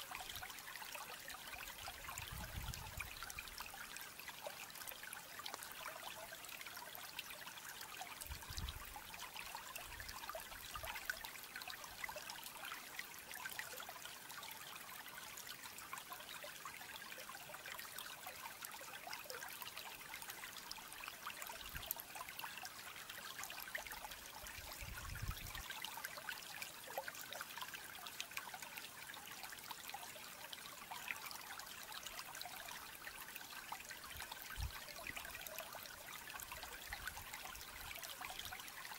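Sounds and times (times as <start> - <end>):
faint trickle of running water: 0.0 - 38.9.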